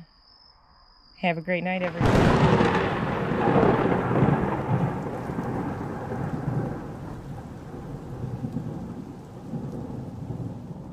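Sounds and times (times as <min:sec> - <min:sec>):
thunder rolling: 0:01.8 - 0:10.9
steady rain: 0:01.9 - 0:10.9.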